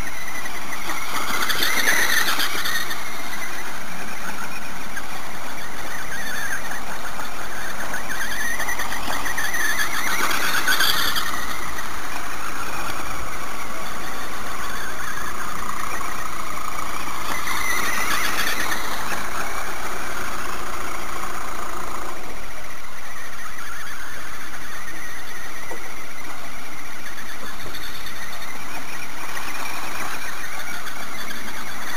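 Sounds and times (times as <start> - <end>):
rc car electric motor whining: 0.0 - 31.9.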